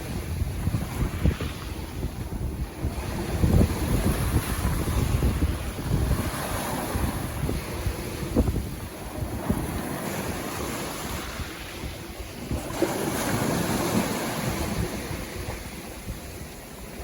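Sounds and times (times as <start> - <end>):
sea waves breaking on beach: 0.0 - 17.0.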